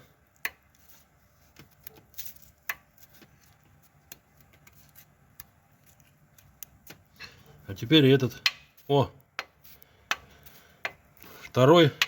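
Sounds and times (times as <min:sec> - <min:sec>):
faint metallic clicks and taps: 0:00.3 - 0:00.8, 0:01.5 - 0:07.5, 0:08.3 - 0:12.0.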